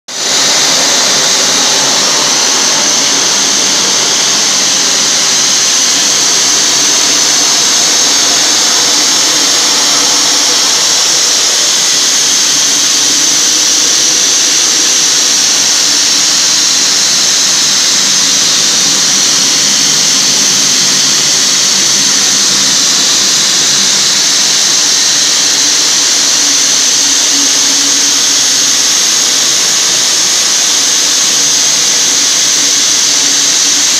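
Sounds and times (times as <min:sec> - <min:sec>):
abrasive blasting hiss: 0:00.1 - 0:33.9.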